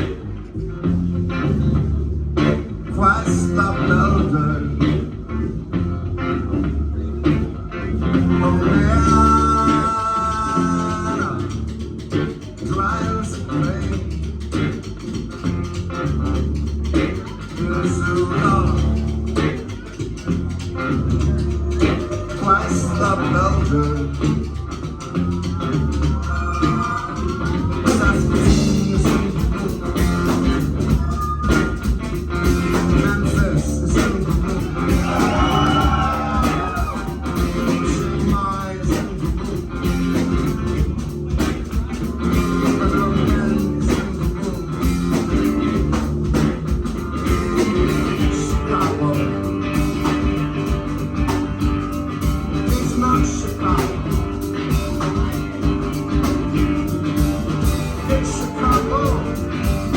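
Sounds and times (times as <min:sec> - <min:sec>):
live rock band: 0:00.0 - 0:59.9.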